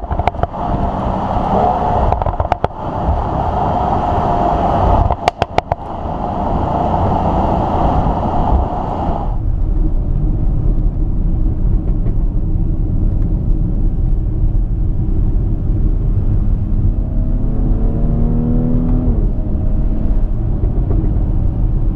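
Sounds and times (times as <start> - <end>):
car engine low rumble: 0.0 - 21.9
road noise: 0.0 - 21.9.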